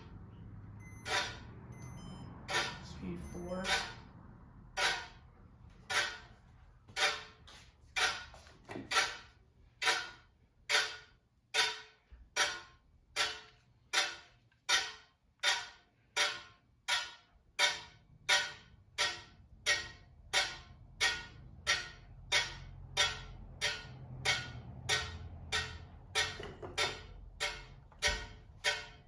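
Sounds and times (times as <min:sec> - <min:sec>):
ceiling fan running: 0:00.0 - 0:29.0
regular scraping from fan: 0:00.0 - 0:29.0.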